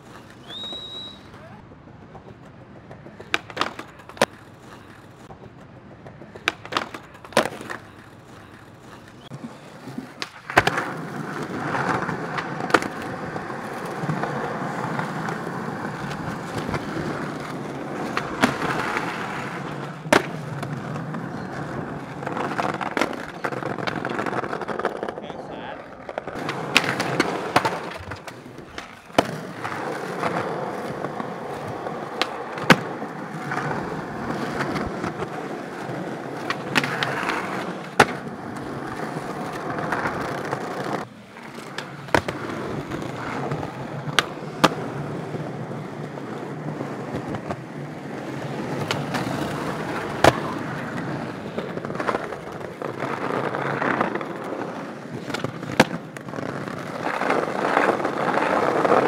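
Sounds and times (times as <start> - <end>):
skateboard clacking on ground: 0.0 - 59.0
skateboard wheels rolling on pavement: 0.0 - 59.0.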